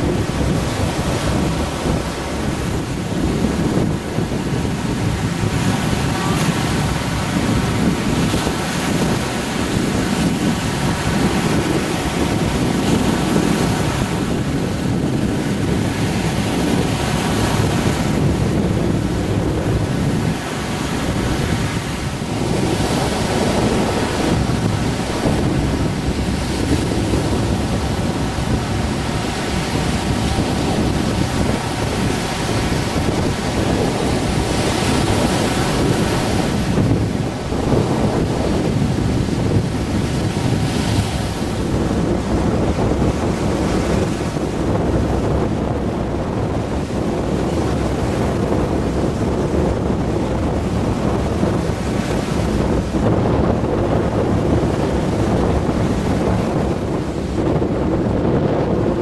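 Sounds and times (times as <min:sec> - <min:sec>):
surf breaking on shore: 0:00.0 - 0:59.0
wind buffeting microphone: 0:00.0 - 0:59.0.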